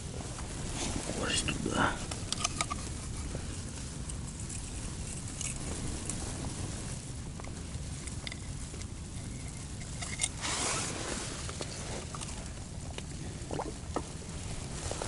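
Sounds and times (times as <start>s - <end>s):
tent fabric rustle: 0.0s - 8.0s, 9.0s - 12.9s, 14.0s - 15.0s
strong wind buffeting a tent: 0.0s - 15.0s.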